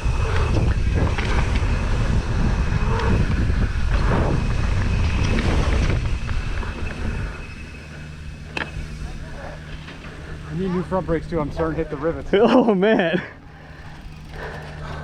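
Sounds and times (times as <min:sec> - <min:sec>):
wind buffeting microphone: 0:00.0 - 0:12.4
bike knocking and rattling: 0:00.0 - 0:15.0.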